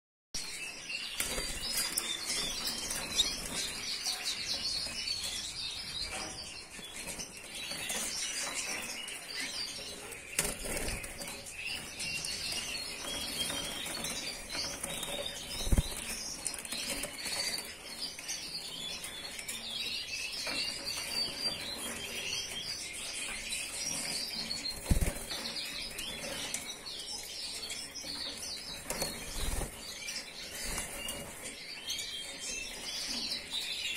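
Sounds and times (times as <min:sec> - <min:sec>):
canaries chirping: 0:00.4 - 0:33.9.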